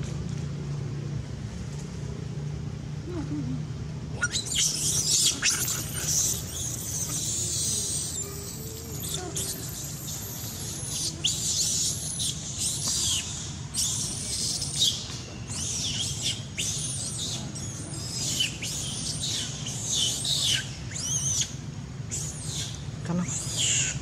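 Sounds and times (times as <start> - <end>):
young macaque squealing: 4.2 - 24.0.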